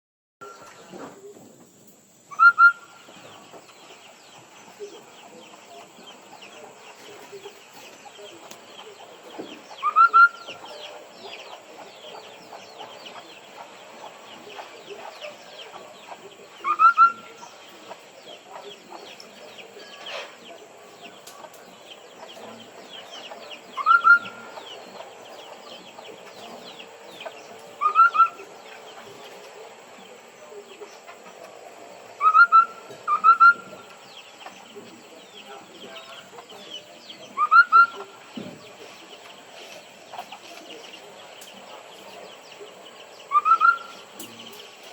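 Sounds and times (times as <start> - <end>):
faint chirping of birds: 0.4 - 44.9.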